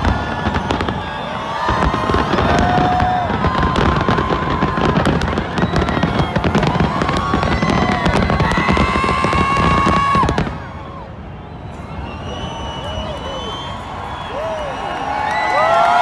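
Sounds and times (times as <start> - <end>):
fireworks bangs and crackles: 0.0 - 14.6.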